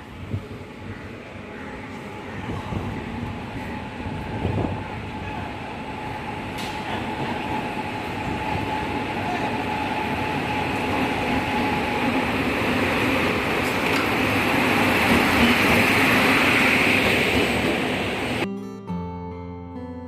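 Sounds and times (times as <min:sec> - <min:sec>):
train rumbling: 0:00.0 - 0:18.4.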